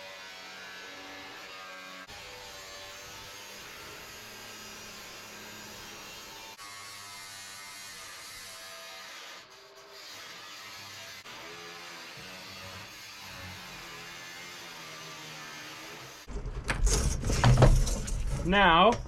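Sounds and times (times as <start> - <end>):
power tool cutting sheet metal: 0.0 - 16.3.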